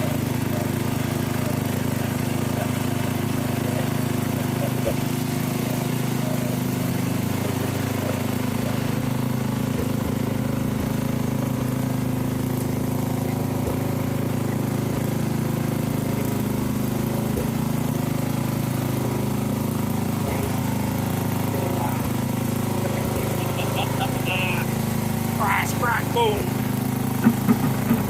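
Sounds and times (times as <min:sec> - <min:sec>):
lawn tractor engine running: 0:00.0 - 0:28.0.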